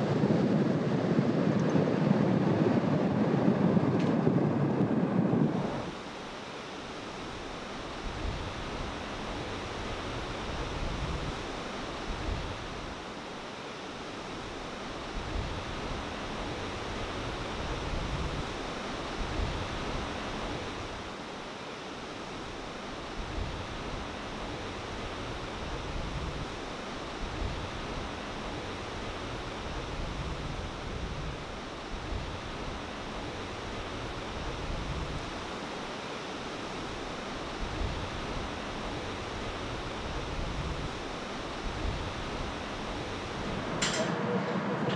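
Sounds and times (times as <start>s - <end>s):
low surf rumbles: 0.0s - 43.9s.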